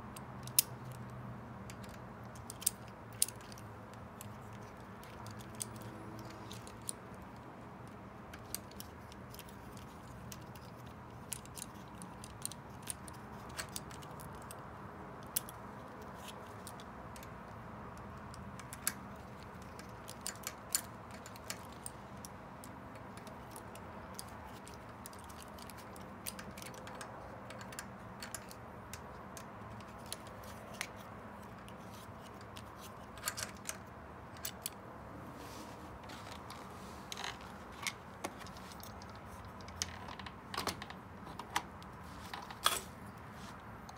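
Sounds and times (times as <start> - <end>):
small metallic clicks and taps: 0.2 - 34.8, 36.3 - 43.9.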